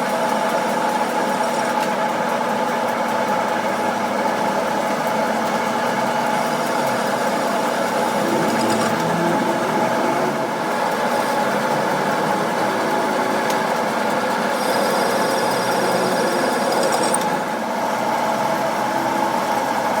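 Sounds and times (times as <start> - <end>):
machine humming with steady tones: 0.0 - 20.0.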